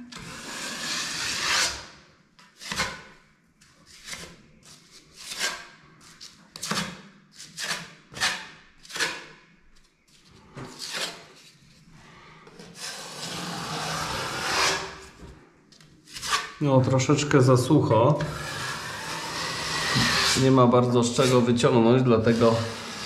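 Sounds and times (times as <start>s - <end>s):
tool scraping compound on wall: 0.0s - 3.1s, 3.9s - 9.4s, 10.6s - 11.6s, 12.4s - 16.6s, 18.1s - 23.0s.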